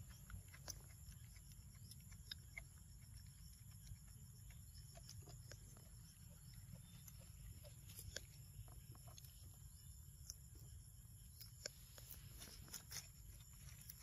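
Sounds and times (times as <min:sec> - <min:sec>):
small clicks and ticks: 0:00.0 - 0:14.0.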